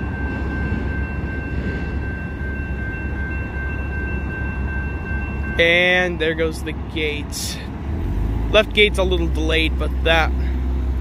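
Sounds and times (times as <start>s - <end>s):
railroad crossing bell ringing: 0.0s - 7.9s, 8.6s - 11.0s
freight train rumbling: 0.0s - 11.0s.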